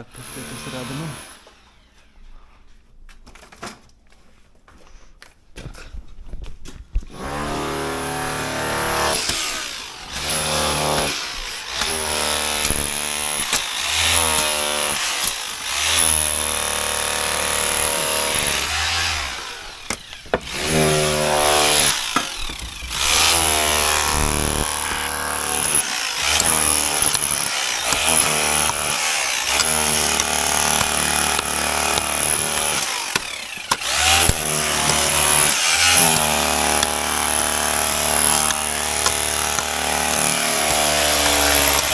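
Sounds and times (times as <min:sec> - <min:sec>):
electric power tool cutting: 0:00.2 - 0:02.1, 0:07.2 - 0:41.9.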